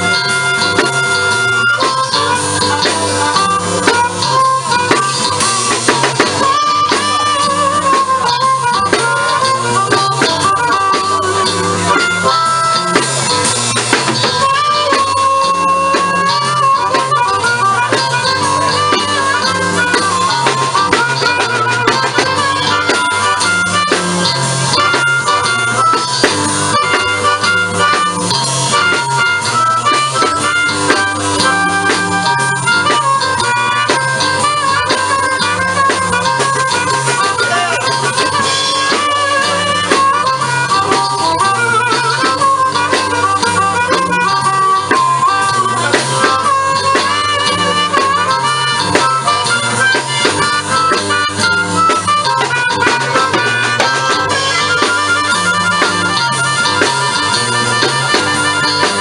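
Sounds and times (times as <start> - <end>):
drums keeping steady beat: 0.0 - 59.0
harmonica solo with bending notes: 0.0 - 59.0
repeating bass line: 0.0 - 59.0.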